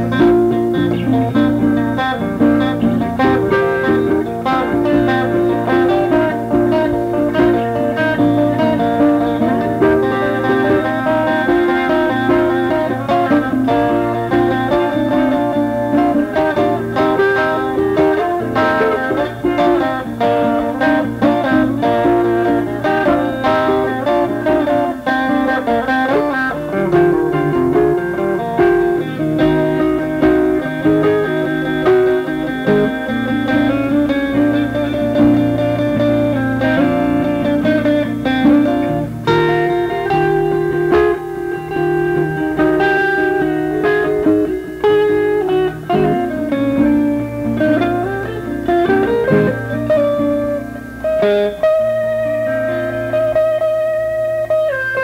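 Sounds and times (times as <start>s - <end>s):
two guitars playing country blues: 0.0s - 55.0s.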